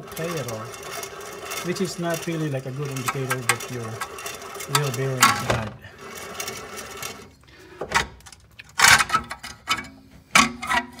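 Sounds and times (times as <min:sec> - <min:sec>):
metallic clanks and clicks: 0:00.0 - 0:07.3, 0:07.9 - 0:11.0.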